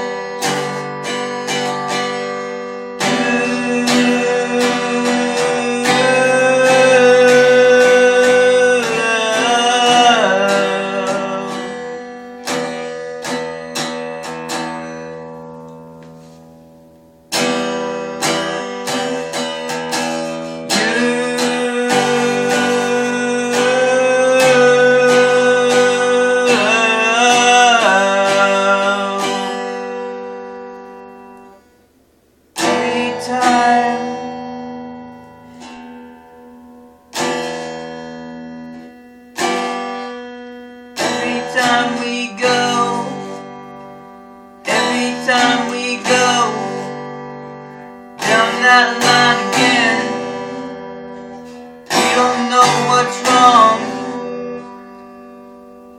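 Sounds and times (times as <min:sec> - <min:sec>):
acoustic guitar playing: 0:00.0 - 0:55.9.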